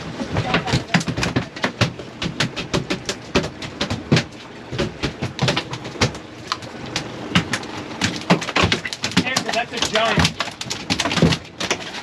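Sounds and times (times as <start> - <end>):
knocks and thumps on boat: 0.0 - 12.0.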